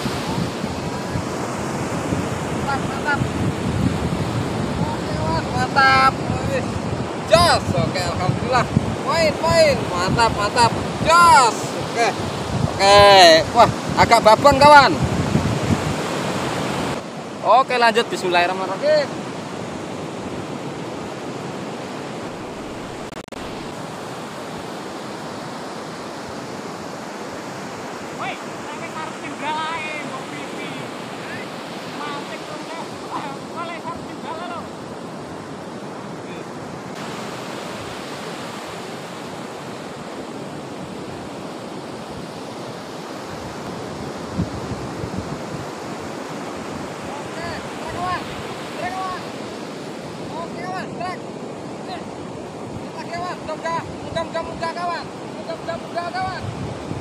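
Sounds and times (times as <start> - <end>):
wind on microphone: 0.0 - 17.4, 18.3 - 28.7, 29.3 - 57.0
ocean surf breaking on beach: 0.0 - 57.0.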